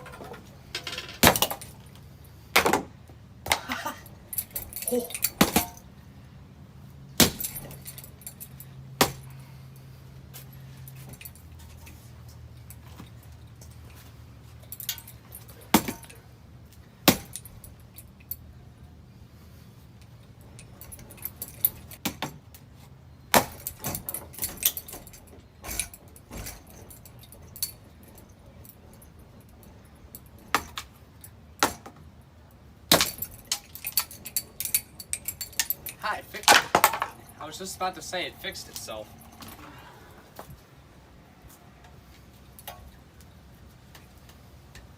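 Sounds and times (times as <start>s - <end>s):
fan parts clanking and rattling: 0.0s - 44.9s.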